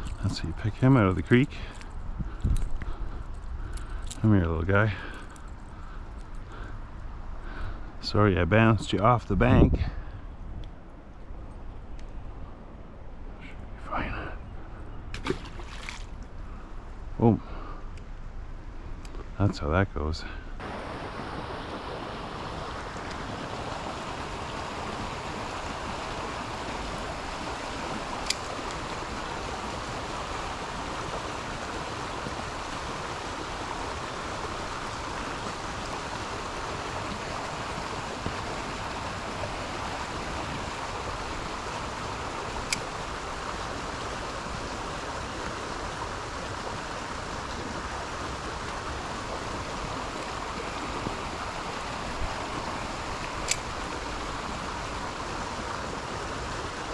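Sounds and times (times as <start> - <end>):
creek water running over riffles: 0.0 - 10.3, 12.6 - 18.2, 18.8 - 56.9.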